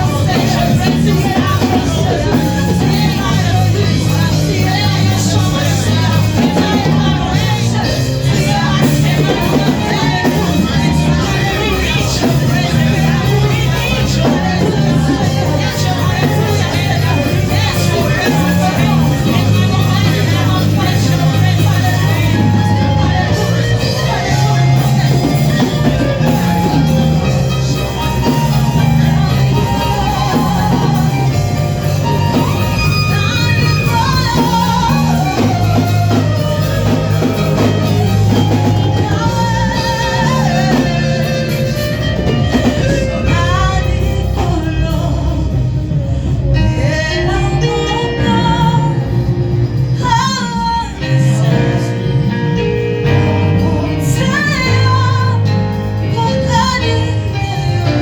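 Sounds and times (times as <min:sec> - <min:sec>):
band playing: 0:00.0 - 0:58.0
steady bass line: 0:00.0 - 0:58.0
voices singing worship music: 0:00.0 - 0:58.0.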